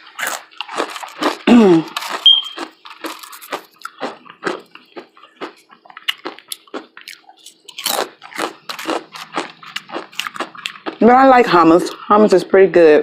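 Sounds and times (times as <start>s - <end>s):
person chewing food: 0.0s - 11.2s.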